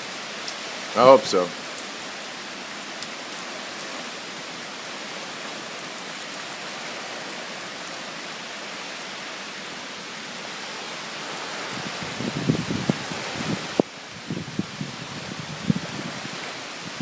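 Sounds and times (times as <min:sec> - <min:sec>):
heavy rain hissing: 0:00.0 - 0:17.0
rain drops ticking: 0:00.0 - 0:17.0.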